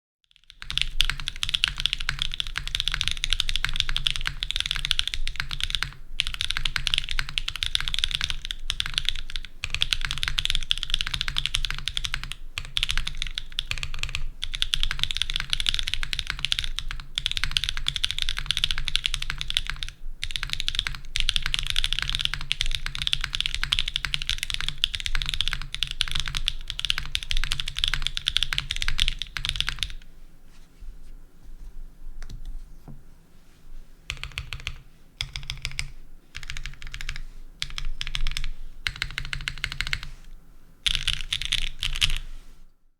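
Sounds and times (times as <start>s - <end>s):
mechanical keyboard typing: 0.3s - 30.0s, 34.1s - 40.1s, 40.8s - 42.3s.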